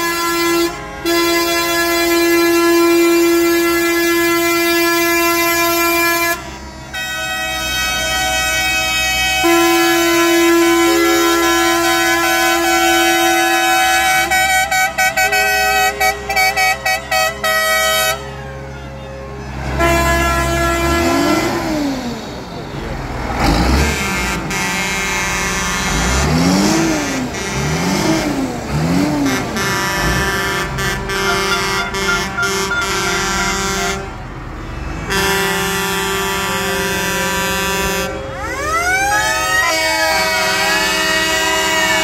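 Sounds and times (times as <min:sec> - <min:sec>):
tractor horn blasts: 0:00.0 - 0:22.0, 0:23.4 - 0:38.6, 0:39.2 - 0:42.0
siren-like horn calls: 0:00.0 - 0:42.0
tractor engines rumbling: 0:00.0 - 0:42.0.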